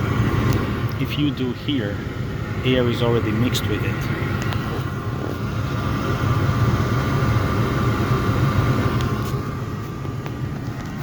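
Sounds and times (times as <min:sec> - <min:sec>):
furnace low rumble: 0:00.0 - 0:11.0.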